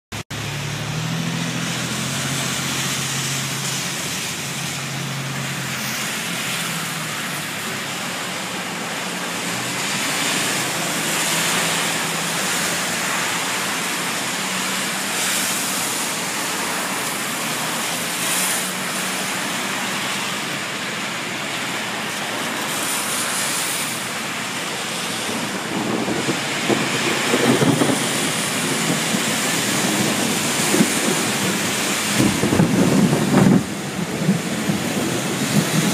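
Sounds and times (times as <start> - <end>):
floodwater rushing: 0.1 - 35.9.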